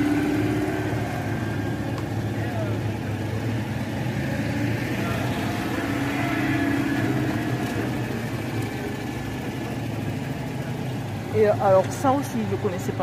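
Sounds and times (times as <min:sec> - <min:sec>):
car engine driving past: 0:00.0 - 0:11.3.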